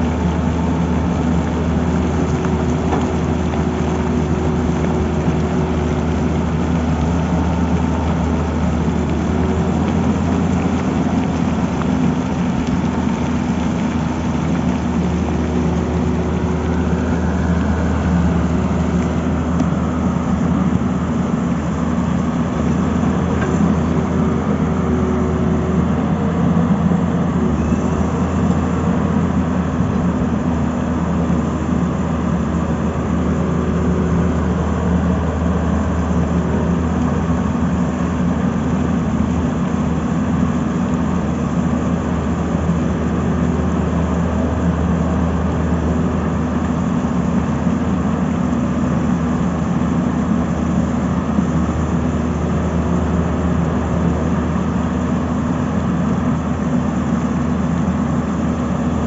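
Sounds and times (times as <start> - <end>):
excavator diesel engine humming: 0.0 - 59.0.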